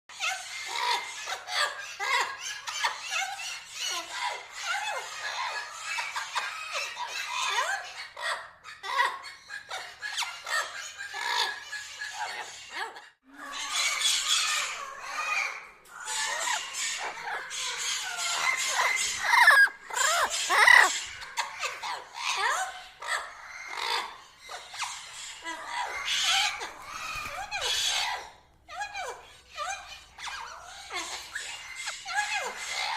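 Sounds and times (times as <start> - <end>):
parrots chattering and squawking: 0.1 - 32.9.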